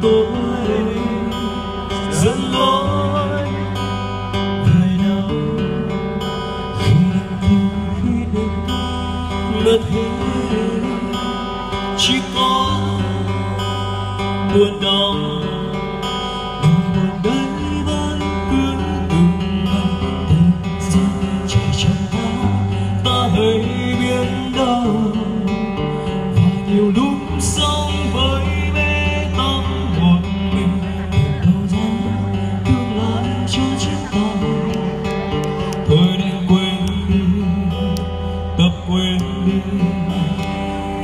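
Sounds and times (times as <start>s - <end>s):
strummed acoustic guitar: 0.0s - 41.0s.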